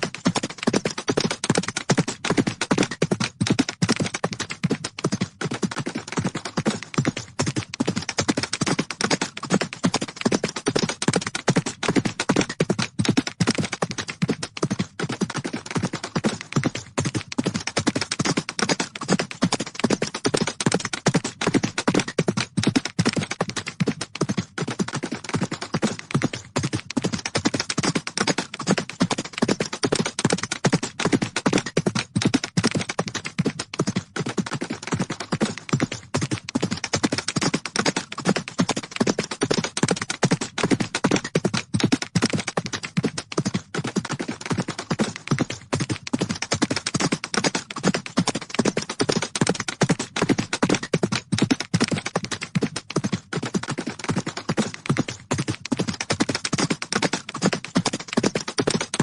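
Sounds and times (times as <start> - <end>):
horses' hooves galloping: 0.0 - 59.0.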